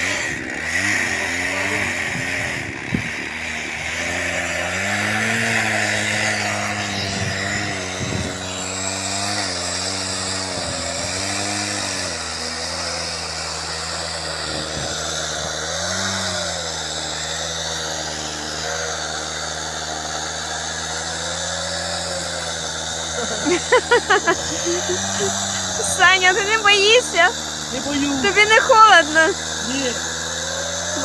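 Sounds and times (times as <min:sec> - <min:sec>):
chainsaw cutting ice: 0:00.0 - 0:31.0.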